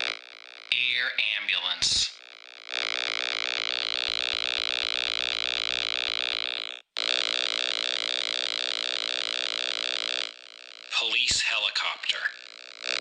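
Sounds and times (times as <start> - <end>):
pulsing electronic buzzing tone: 0.0 - 13.0.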